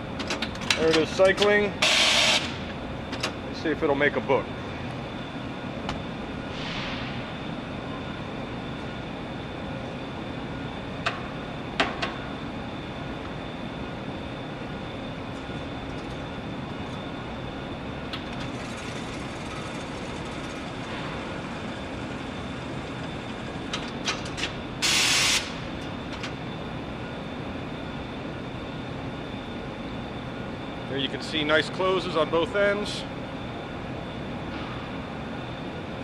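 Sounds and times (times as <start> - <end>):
machine mechanical hum: 0.0 - 36.0.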